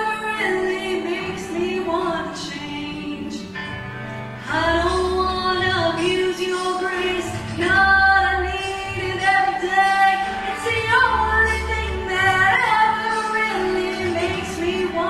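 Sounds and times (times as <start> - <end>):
woman singing into a microphone: 0.0 - 3.8, 4.4 - 15.0
instrumental accompaniment with bass: 0.0 - 15.0.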